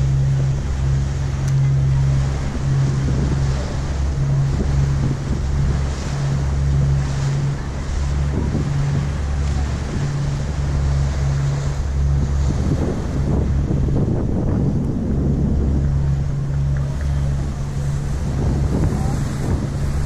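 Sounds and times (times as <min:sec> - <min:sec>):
ferry engines droning: 0:00.0 - 0:20.0
water rushing along hull: 0:00.0 - 0:20.0
wind on microphone: 0:00.0 - 0:20.0.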